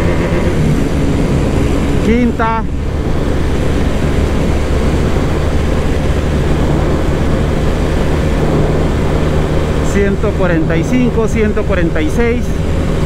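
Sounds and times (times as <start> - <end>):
motorcycle engine at high revs: 0.0 - 13.0
wind rush over microphone: 0.0 - 13.0.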